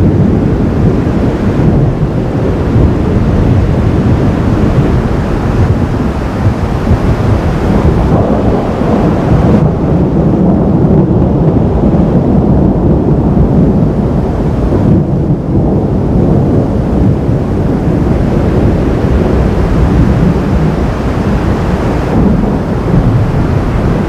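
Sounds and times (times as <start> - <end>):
thunder rumbling: 0.0 - 24.0.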